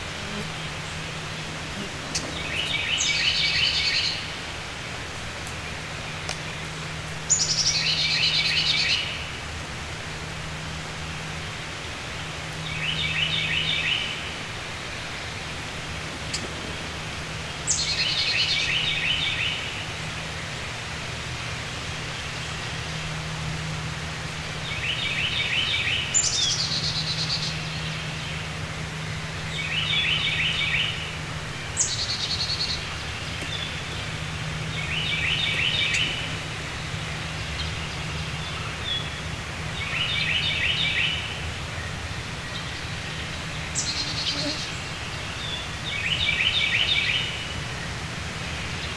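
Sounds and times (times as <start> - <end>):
songbirds singing: 0.0 - 48.9
steady low hum: 0.0 - 48.9.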